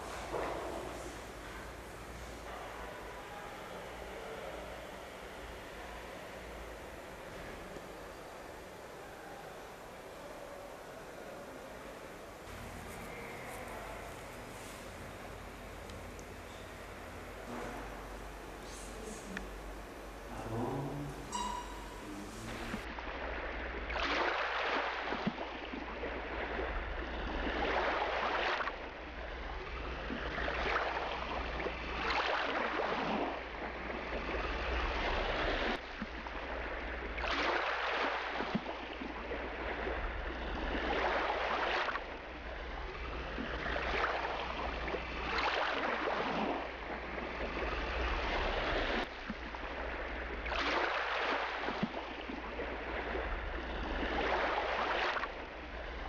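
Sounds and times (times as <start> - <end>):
low steady hum: 0.0 - 56.0
sea waves washing: 0.0 - 56.0.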